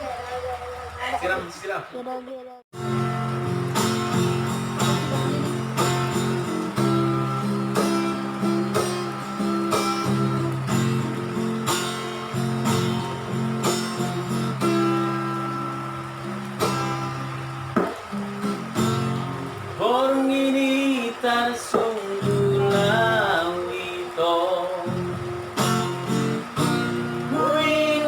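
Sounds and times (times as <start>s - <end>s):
acoustic guitar strumming chords: 2.7s - 28.0s.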